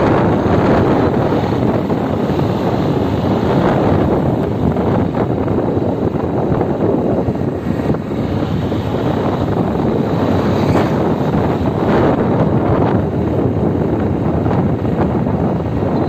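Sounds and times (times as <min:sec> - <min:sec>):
car road noise: 0:00.0 - 0:16.0
wind buffeting microphone: 0:00.0 - 0:16.0.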